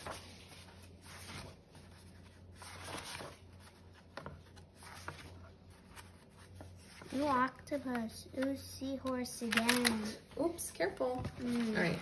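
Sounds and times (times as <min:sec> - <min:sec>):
book pages turning: 0:00.0 - 0:12.0.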